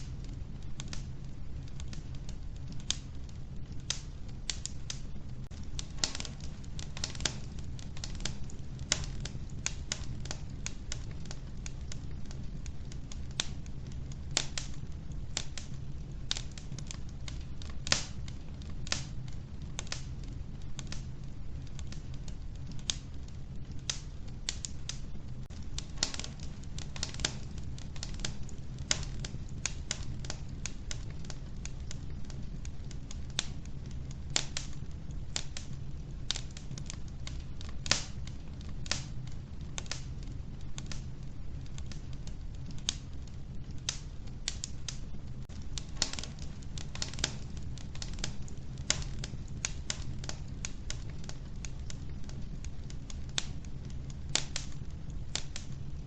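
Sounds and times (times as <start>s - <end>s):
flames rumbling: 0.0s - 56.0s
logs crackling and popping: 0.0s - 56.0s.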